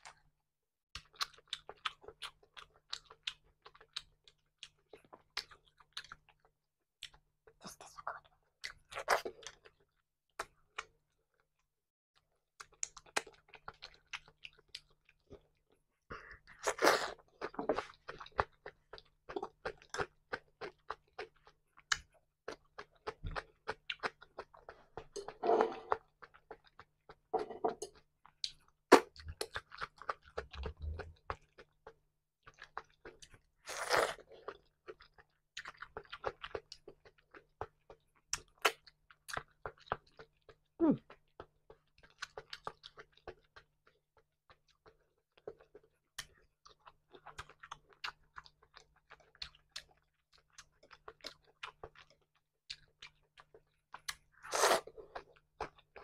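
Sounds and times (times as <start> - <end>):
chewing crunchy vegetables: 0.9 - 11.4, 12.2 - 56.0.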